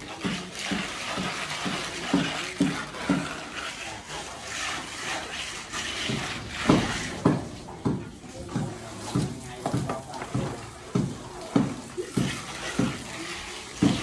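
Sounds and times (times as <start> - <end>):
trowel scraping wet cement: 0.0 - 14.0.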